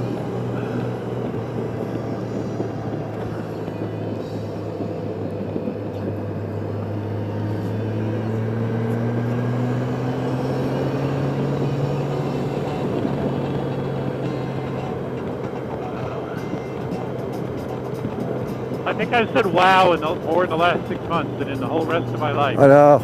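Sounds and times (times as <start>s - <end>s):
wind noise: 0.0s - 22.1s
motorcycle engine running: 0.0s - 23.0s.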